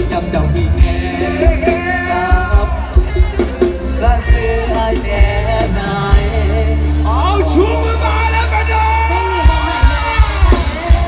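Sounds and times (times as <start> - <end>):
heavy bass and drum hits: 0.0 - 7.3, 9.4 - 11.0
person singing: 0.0 - 8.4, 9.4 - 11.0
band music through loud speakers: 0.0 - 11.0.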